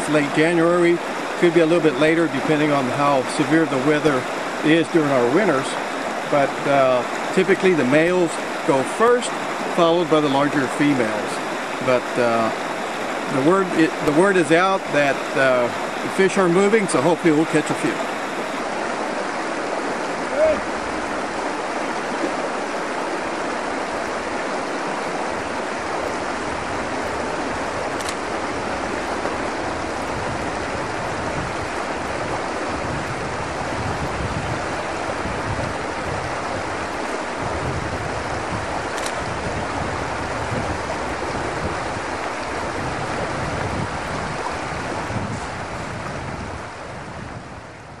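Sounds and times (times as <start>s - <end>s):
river rushing over gravel: 0.0s - 48.0s.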